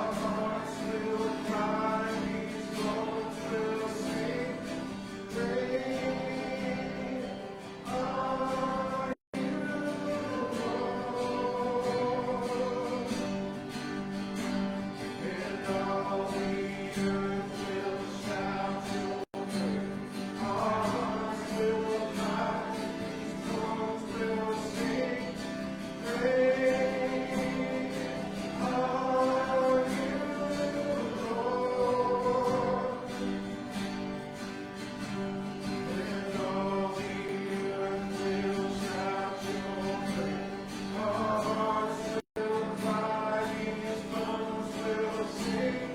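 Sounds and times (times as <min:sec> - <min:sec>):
congregation singing: 0:00.0 - 0:45.9.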